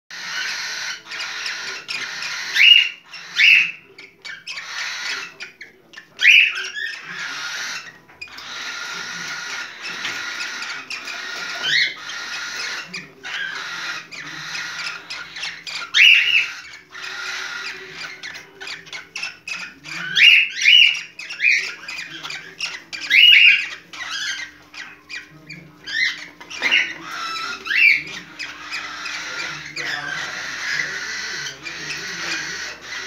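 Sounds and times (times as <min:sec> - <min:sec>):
soft bird chirps: 0:00.1 - 0:33.0.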